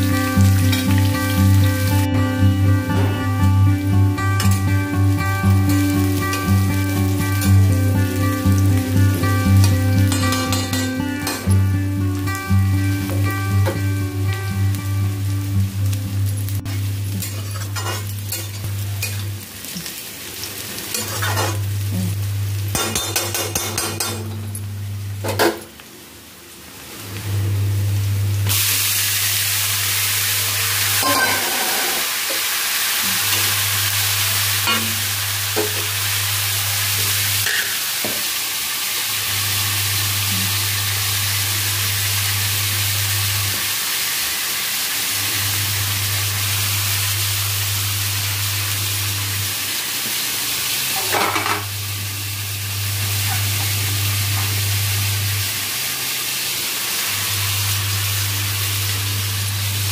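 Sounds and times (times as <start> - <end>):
vegetables sizzling in a pan: 0.0 - 59.9.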